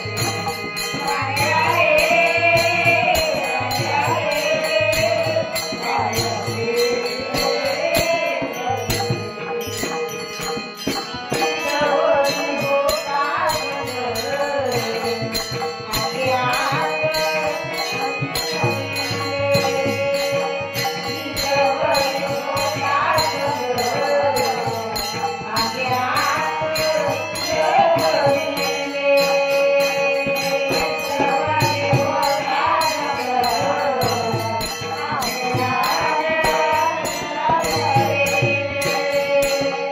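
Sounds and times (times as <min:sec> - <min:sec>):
jingling hand percussion: 0:00.0 - 0:39.9
woman singing devotional song: 0:00.0 - 0:39.9.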